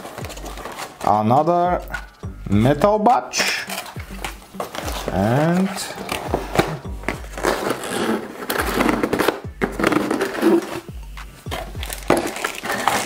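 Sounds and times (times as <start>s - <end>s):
cardboard packaging scraping and knocking: 0.0s - 1.2s, 3.7s - 13.0s
plastic bags rustling: 0.0s - 1.8s, 3.3s - 13.0s.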